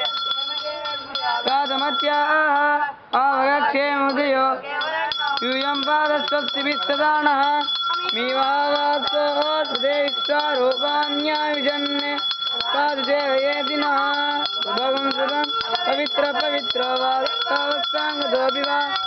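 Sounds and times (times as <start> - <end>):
steady high ringing tone: 0.0 - 2.8, 4.8 - 19.0.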